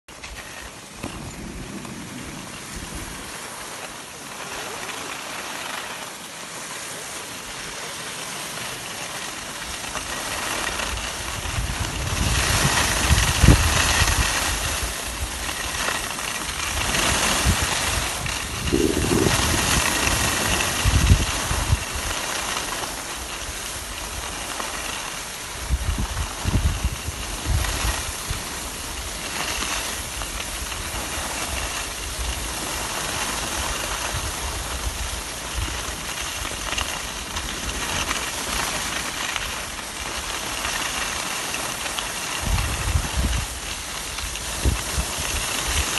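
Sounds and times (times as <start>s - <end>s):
wind buffeting microphone: 0.1s - 4.5s, 9.6s - 45.9s
skis scraping over snow: 0.1s - 45.9s.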